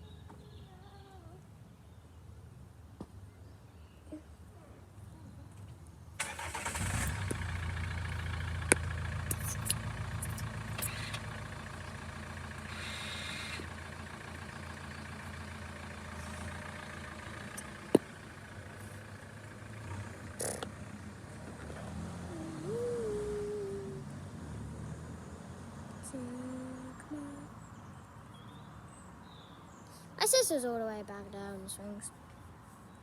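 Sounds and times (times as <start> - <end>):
low engine hum: 5.0 - 33.0.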